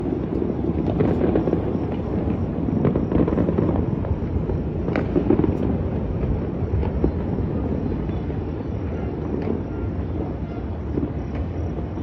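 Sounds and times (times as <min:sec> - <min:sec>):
fireworks rumbling: 0:00.0 - 0:12.0.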